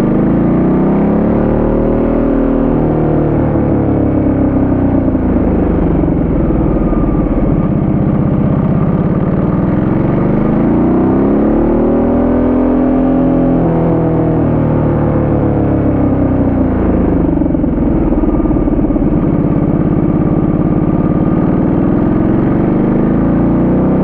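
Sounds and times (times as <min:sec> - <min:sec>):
motorcycle engine: 0:00.0 - 0:24.0.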